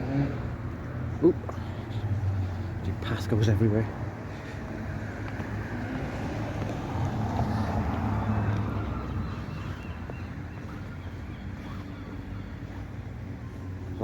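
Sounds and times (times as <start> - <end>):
steady low traffic rumble: 0.0 - 14.0
vehicle passing: 0.0 - 14.0.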